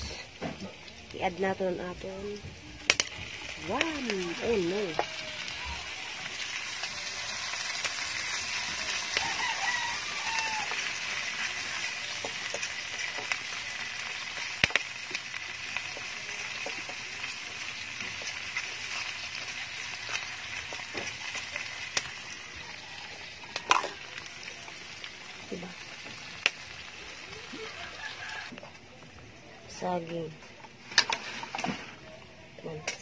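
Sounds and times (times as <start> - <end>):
food sizzling in a pan: 0.0 - 28.6.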